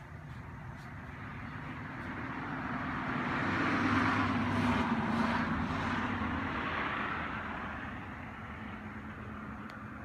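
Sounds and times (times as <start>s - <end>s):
vehicle passing by: 0.3s - 10.0s.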